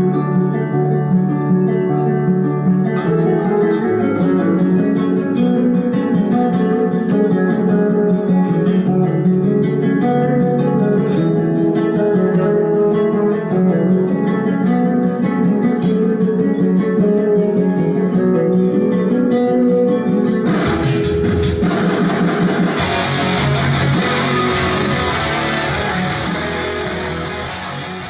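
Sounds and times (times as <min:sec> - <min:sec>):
flamenco acoustic guitar: 0:00.0 - 0:28.0.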